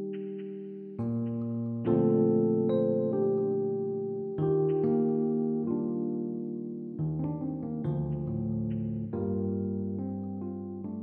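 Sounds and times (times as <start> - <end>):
music of sustained chords: 0.0 - 11.0.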